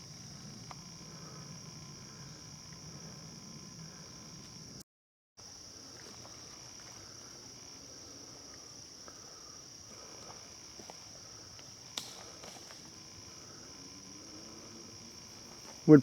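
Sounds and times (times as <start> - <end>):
crickets trilling: 0.0 - 4.8, 5.4 - 16.0.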